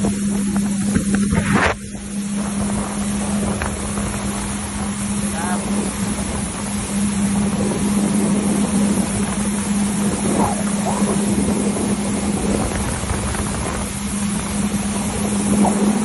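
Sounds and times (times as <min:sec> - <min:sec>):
jet ski engine humming: 0:00.0 - 0:16.0
water rushing: 0:00.0 - 0:16.0
wind on microphone: 0:00.0 - 0:16.0.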